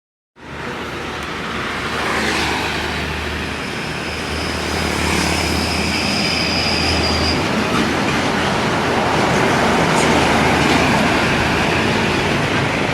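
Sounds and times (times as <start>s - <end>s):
road noise: 0.4s - 12.9s.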